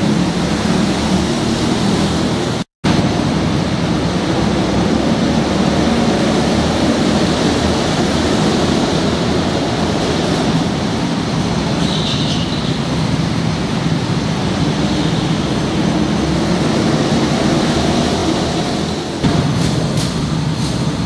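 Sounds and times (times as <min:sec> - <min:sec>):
go-kart engines running: 0:00.0 - 0:21.0.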